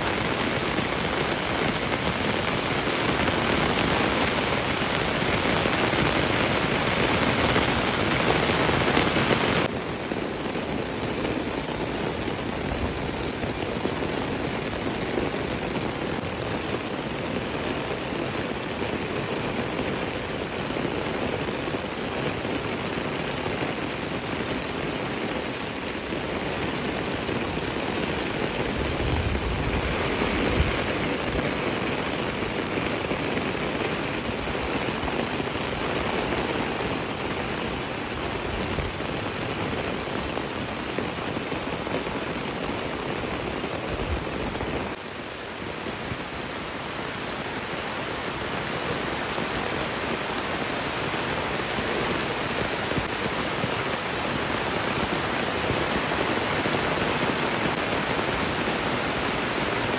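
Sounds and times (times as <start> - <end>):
heavy rain splashing on a path: 0.0 - 59.9
steady rain hissing: 0.0 - 59.9.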